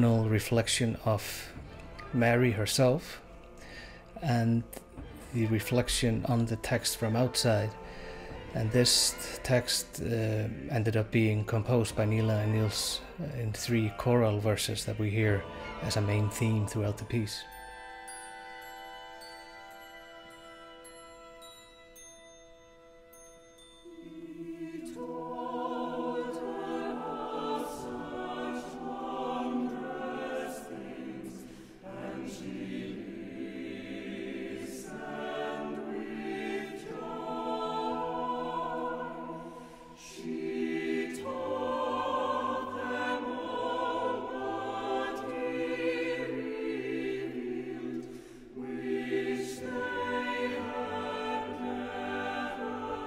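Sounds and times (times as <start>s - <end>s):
chamber orchestra: 0.0s - 53.0s
choir singing sustained chords: 0.0s - 53.0s.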